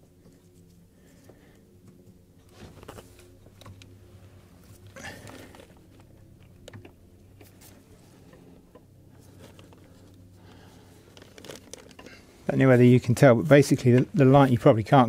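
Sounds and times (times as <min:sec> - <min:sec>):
low steady hum: 0:00.0 - 0:15.0
hands handling metal brake line: 0:00.2 - 0:15.0.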